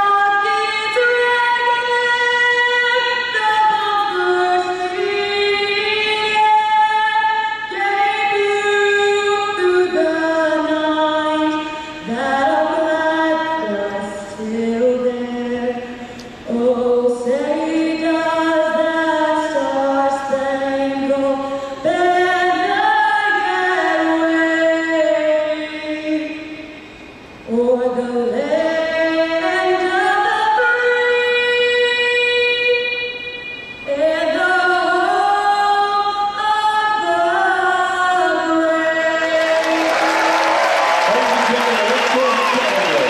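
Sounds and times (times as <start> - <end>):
woman singing unaccompanied: 0.0 - 26.6, 27.5 - 39.9.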